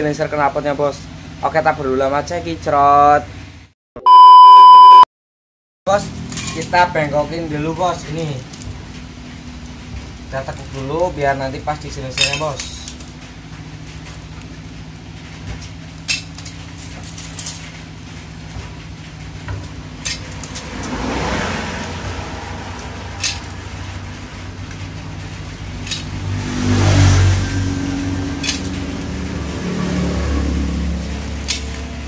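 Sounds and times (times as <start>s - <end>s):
engine noise: 5.9s - 32.0s.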